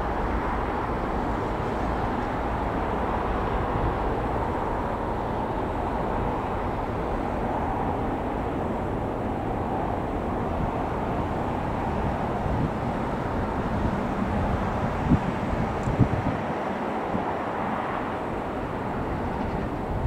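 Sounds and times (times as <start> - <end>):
distant jet engines rumbling: 0.0 - 20.0.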